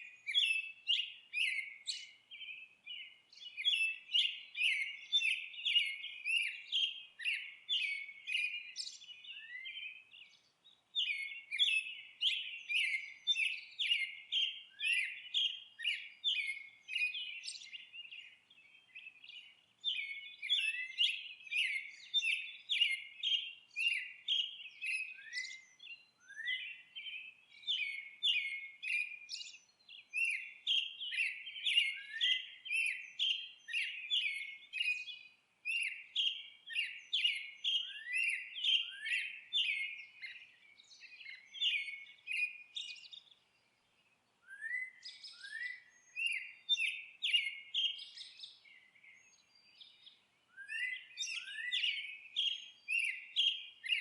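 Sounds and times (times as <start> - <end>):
songbird chirping rapidly: 0.0 - 54.0.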